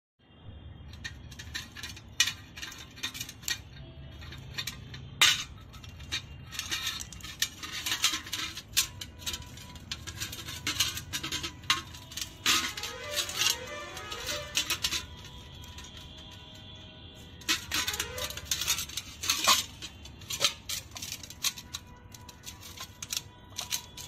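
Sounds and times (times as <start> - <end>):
metal parts clinking: 0.9 - 24.0.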